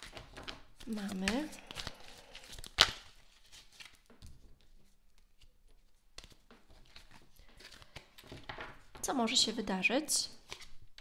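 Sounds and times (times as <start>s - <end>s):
cards rustling and tapping: 0.0s - 9.6s, 10.3s - 11.0s.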